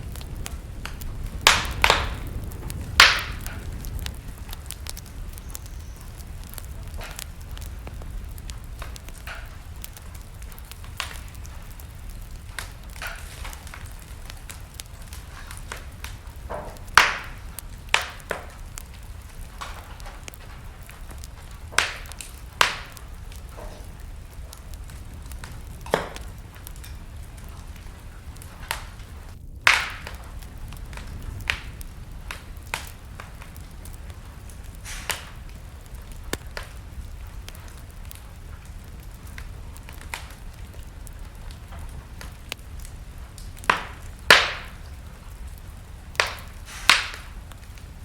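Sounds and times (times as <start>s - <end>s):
low fire rumble: 0.0s - 48.0s
wood fire crackling and popping: 0.0s - 48.0s.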